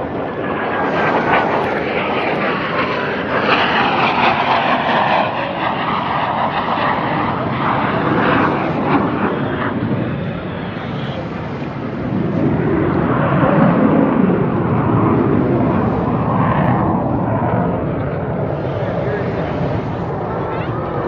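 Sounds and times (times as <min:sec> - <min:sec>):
jet noise high-speed pass: 0:00.0 - 0:21.0.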